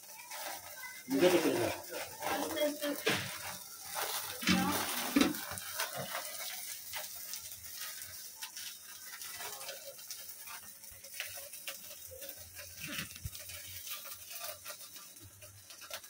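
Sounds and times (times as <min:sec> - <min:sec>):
fire crackling and hissing: 0:00.0 - 0:16.0.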